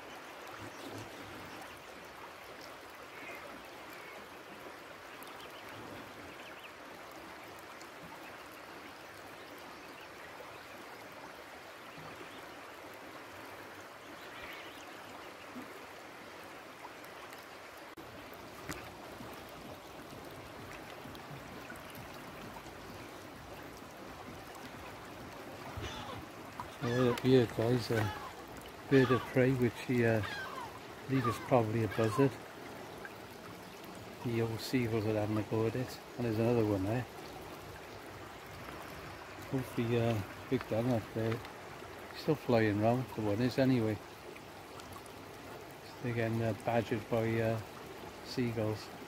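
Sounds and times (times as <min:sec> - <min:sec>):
flowing river water: 0:00.0 - 0:49.0.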